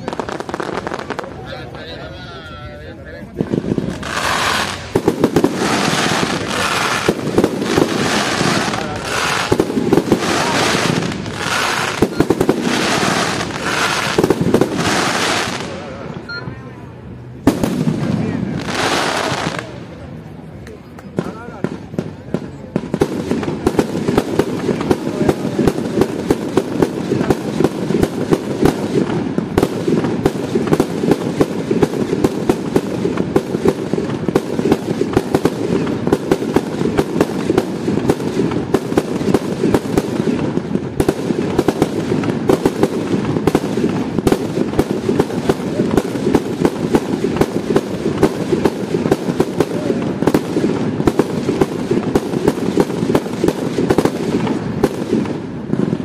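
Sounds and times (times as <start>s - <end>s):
fireworks crackling bangs: 0.0s - 56.0s.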